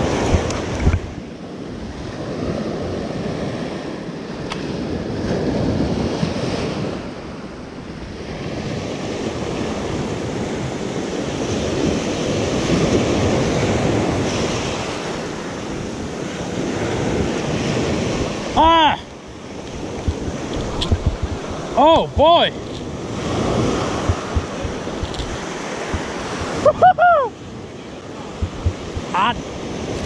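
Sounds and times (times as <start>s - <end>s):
waves breaking on pebble beach: 0.0s - 30.0s
wind buffeting microphone: 0.0s - 30.0s.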